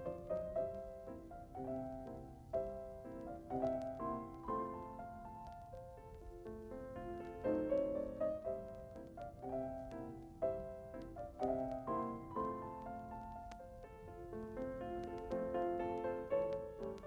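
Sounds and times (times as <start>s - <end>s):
lively piano music: 0.0s - 17.0s.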